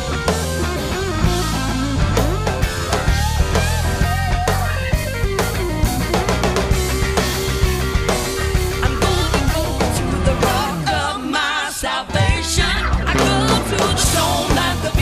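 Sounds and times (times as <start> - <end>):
drum kit hits: 0.0 - 10.9, 12.2 - 15.0
electric guitar: 0.0 - 15.0.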